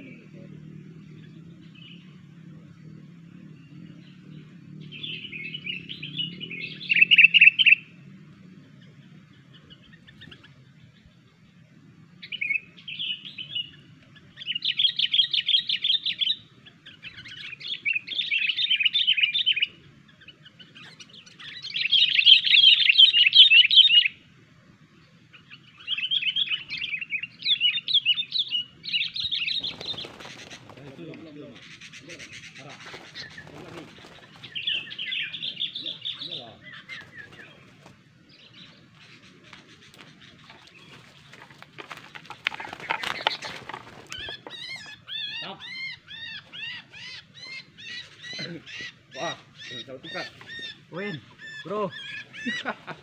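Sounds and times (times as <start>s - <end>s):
bird chattering song: 0.0s - 24.4s, 25.0s - 53.0s.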